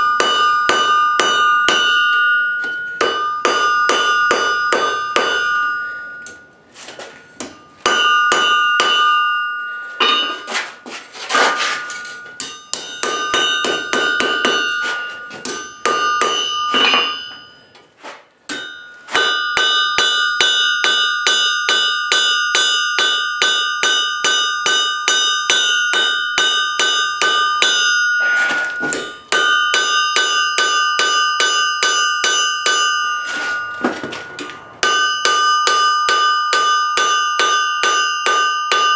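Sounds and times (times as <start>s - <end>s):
anvil ringing: 0.0s - 38.9s
hammer striking steel on anvil: 0.0s - 38.9s.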